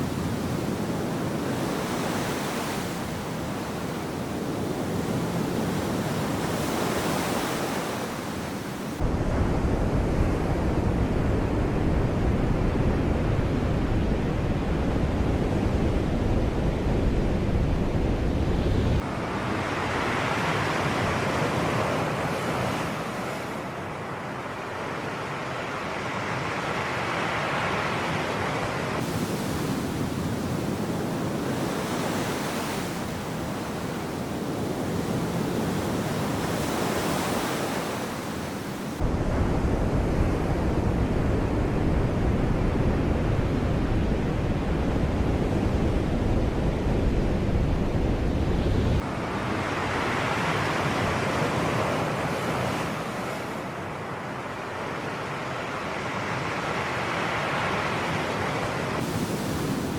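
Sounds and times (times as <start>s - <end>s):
sea waves breaking: 0.0s - 9.1s, 18.9s - 59.9s.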